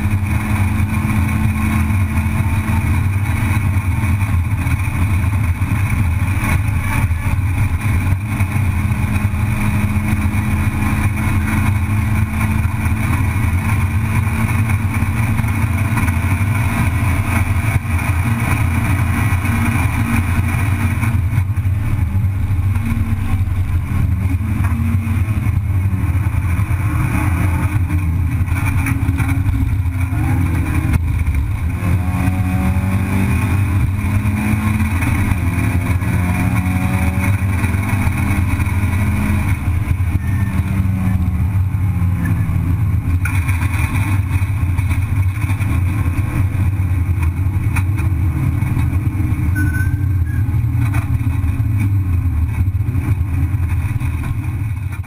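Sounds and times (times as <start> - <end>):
race car engine from inside: 0.0 - 55.0
road and wind noise: 0.0 - 55.0.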